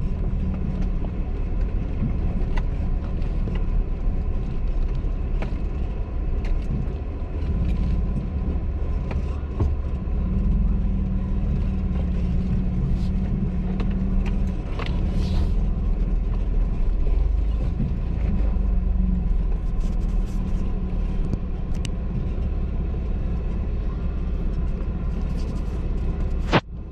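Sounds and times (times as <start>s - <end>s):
off-road vehicle engine rumble: 0.0s - 26.9s.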